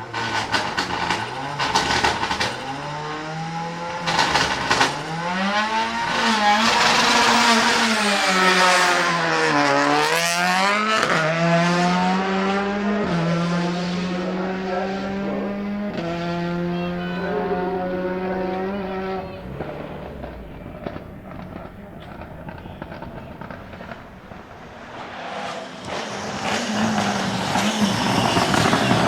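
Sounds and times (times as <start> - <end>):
exhaust popping and crackling: 0.0 - 29.0
racing car engine revving: 0.0 - 29.0.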